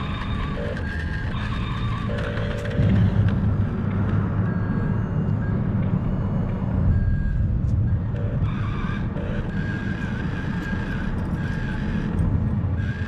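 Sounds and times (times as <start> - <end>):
traffic rumble on bridge overhead: 0.0 - 13.0.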